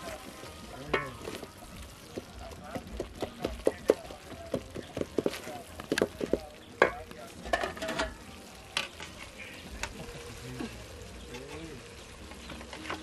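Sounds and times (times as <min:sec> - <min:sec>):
soft cooking hiss: 0:00.0 - 0:13.0.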